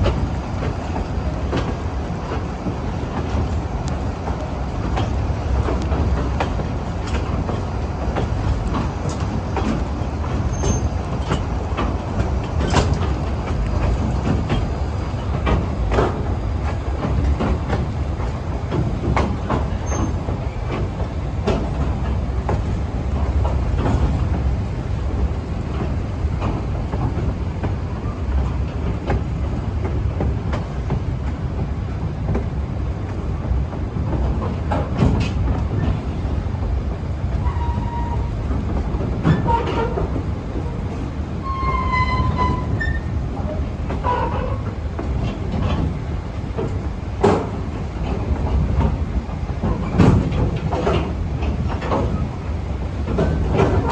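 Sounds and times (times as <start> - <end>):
train rumbling on track: 0.0 - 53.9
wheels clanking over rail joints: 0.0 - 53.9.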